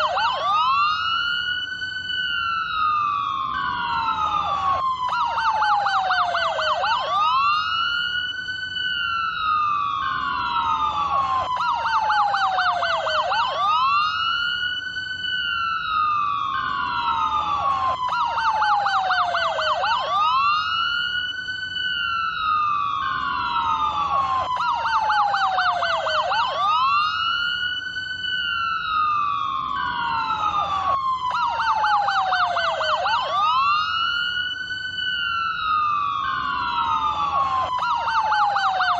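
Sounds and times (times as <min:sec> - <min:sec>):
police siren wailing and yelping: 0:00.0 - 0:38.9.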